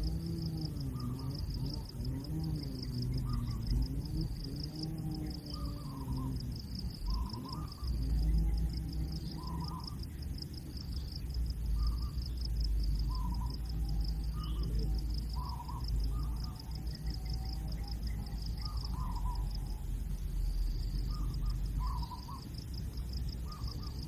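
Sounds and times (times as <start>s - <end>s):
low rumble: 0.0s - 23.6s
pulsing insect chirr: 0.0s - 24.0s.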